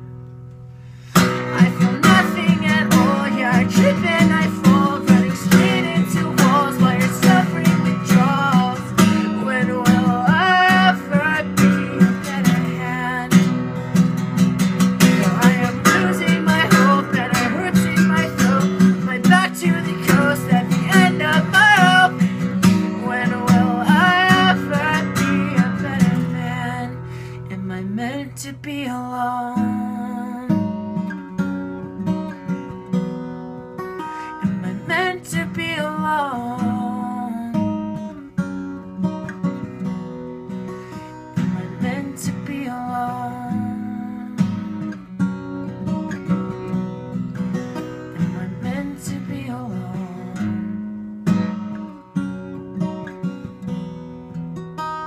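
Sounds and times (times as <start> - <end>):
acoustic guitar strummed: 0.0 - 55.0.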